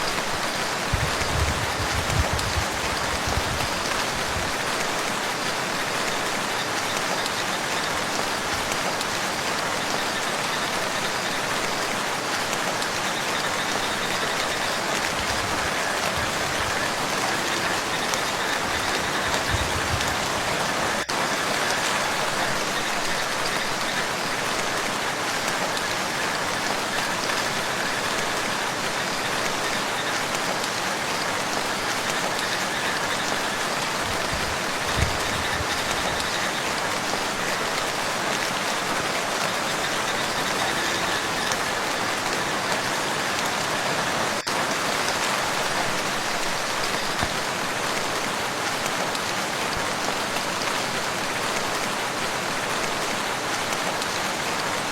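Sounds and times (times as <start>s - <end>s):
rain falling on water: 0.0s - 54.9s.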